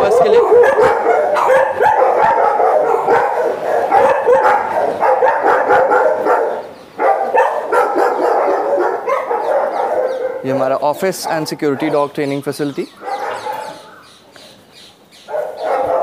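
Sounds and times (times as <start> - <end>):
dogs barking and howling: 0.0 - 14.6, 15.2 - 16.0.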